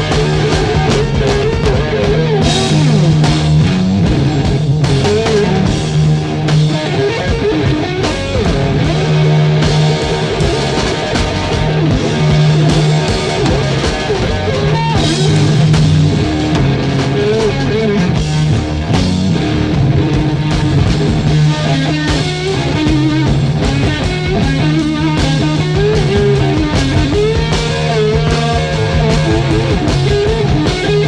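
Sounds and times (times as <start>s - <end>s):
bass and drums: 0.0s - 31.0s
electric guitar lead: 0.0s - 31.0s.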